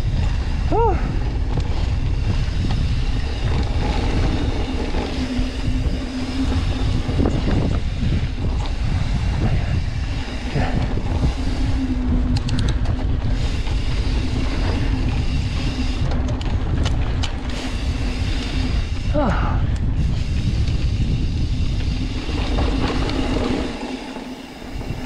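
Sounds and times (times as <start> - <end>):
bike rolling over dirt trail: 0.0 - 25.0
wind on microphone: 0.0 - 25.0.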